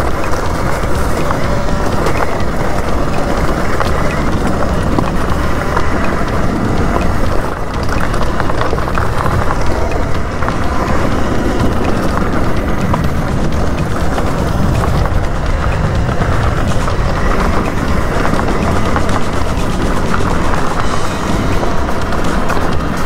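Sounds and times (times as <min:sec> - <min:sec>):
bike rattling: 0:00.0 - 0:23.0
wind rushing over microphone: 0:00.0 - 0:23.0.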